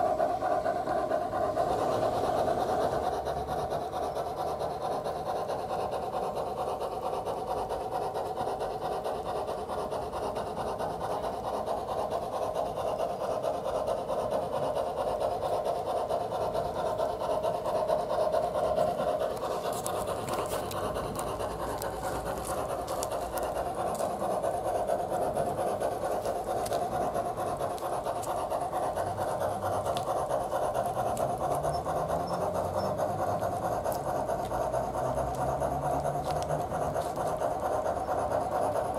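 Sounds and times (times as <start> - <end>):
model train steam chuff: 0.0 - 38.9.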